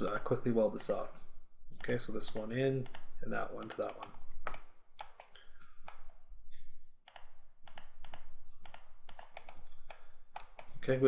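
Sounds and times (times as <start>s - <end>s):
mouse and keyboard clicks: 0.0s - 1.2s, 1.8s - 6.2s, 7.1s - 10.8s.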